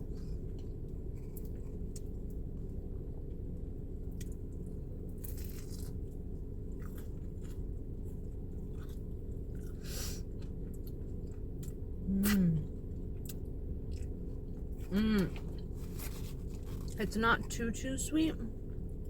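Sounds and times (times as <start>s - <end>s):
chewing crunchy food: 0.0s - 17.7s
steady low hum: 0.0s - 19.0s.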